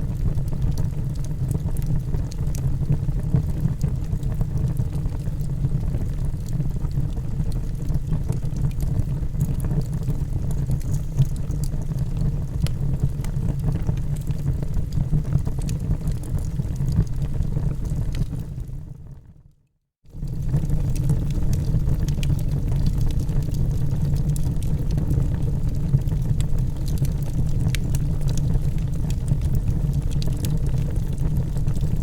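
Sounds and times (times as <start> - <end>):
burning logs crackling and popping: 0.1 - 18.8, 20.2 - 32.0
low roar of flames: 0.1 - 19.0, 20.1 - 32.0.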